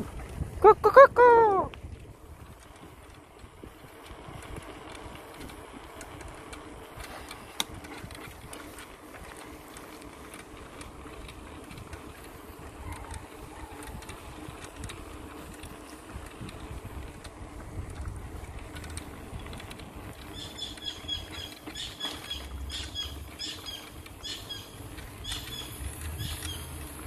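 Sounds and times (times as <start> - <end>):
bicycle tyre and wind noise: 0.0 - 27.0.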